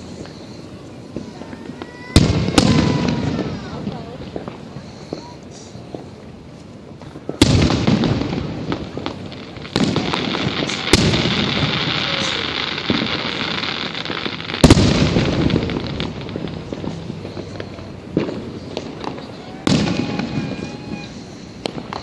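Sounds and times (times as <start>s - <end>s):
firework bangs: 0.0s - 22.0s
fireworks crackling: 0.0s - 22.0s.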